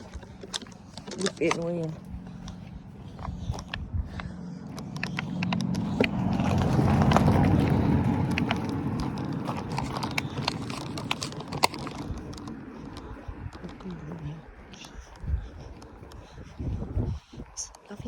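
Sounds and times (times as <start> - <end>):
sharp clicks and crunches: 0.0 - 16.7
car passing with low rumble: 0.0 - 18.0.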